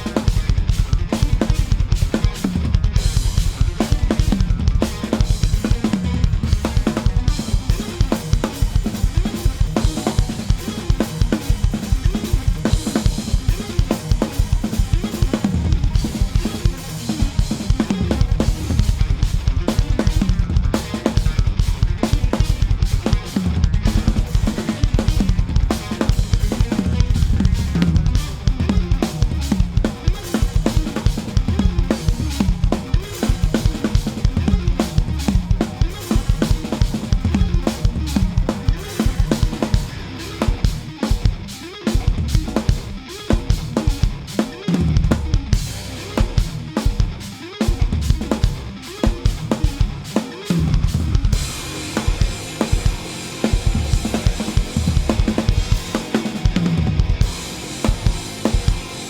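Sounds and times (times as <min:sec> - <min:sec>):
fast metal drumming: 0:00.0 - 0:59.0.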